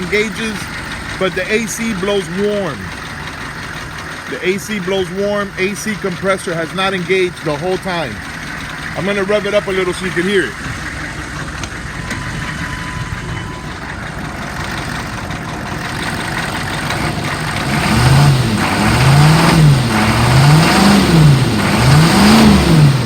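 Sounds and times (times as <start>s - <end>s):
diesel engine idling and revving: 0.0s - 23.0s.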